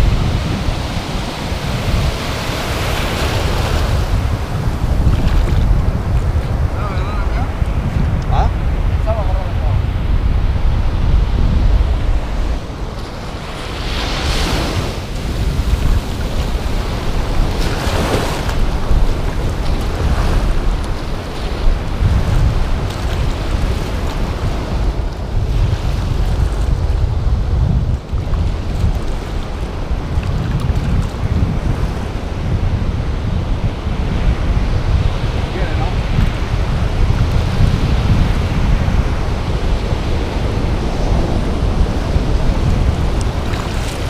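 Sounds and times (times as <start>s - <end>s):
surf washing in shallow water: 0.0s - 44.0s
wind buffeting microphone: 0.0s - 44.0s.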